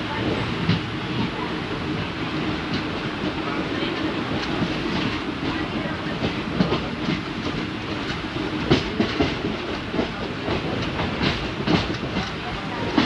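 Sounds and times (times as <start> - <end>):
train rumbling and rattling: 0.0 - 13.0
wheels clicking over rails: 0.2 - 13.0.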